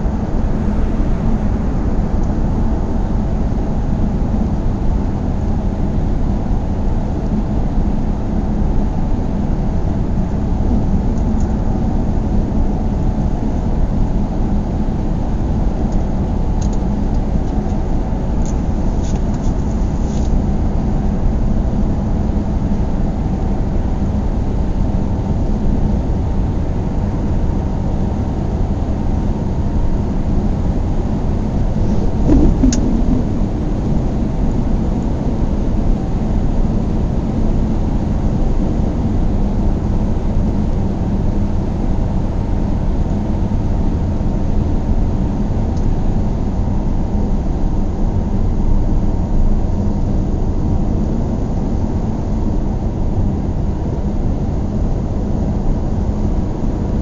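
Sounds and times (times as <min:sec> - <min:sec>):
car engine and tyre rumble: 0:00.0 - 0:48.4.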